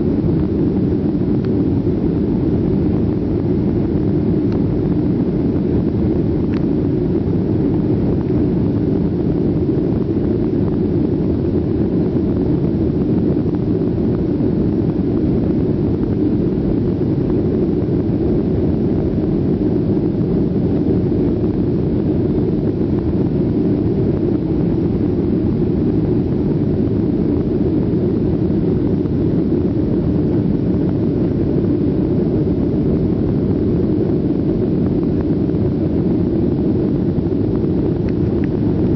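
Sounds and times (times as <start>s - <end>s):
jet engines roaring in cabin: 0.0s - 38.9s.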